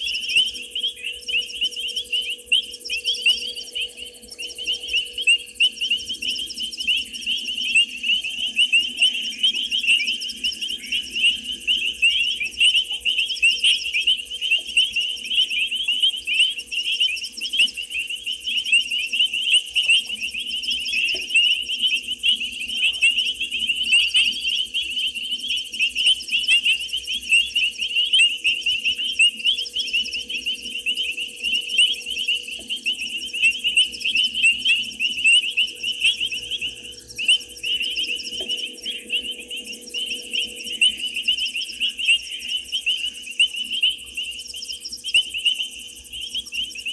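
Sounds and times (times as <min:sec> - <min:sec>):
faint low hum: 0:00.0 - 0:46.9
frogs and insects calling: 0:00.0 - 0:46.9.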